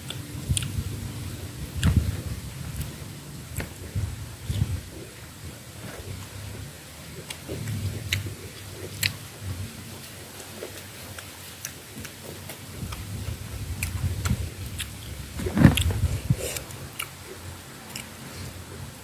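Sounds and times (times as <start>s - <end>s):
chewing: 0.0s - 0.8s, 1.7s - 6.4s, 7.0s - 18.6s
wind rumble on microphone: 0.0s - 10.9s, 11.8s - 16.9s.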